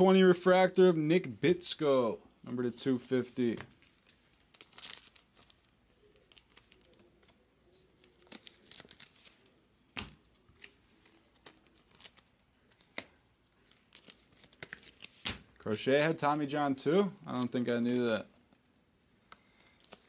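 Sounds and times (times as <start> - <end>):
plastic sleeves crinkling: 3.4 - 20.0.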